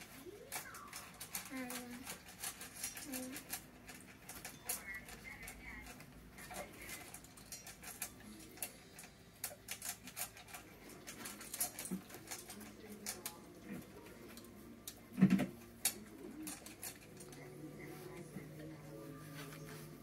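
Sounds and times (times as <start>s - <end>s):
dogs crunching dry kibble: 0.1s - 19.5s.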